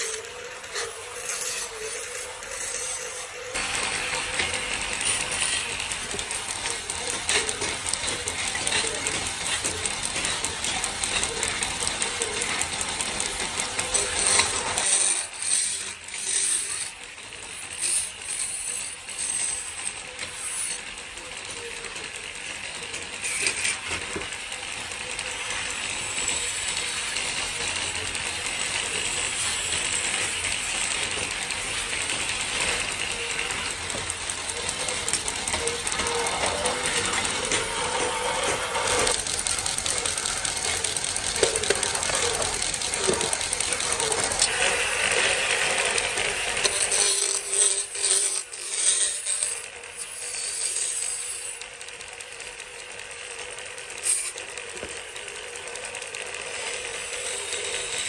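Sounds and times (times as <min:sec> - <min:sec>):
factory machinery clattering: 0:00.0 - 0:50.8.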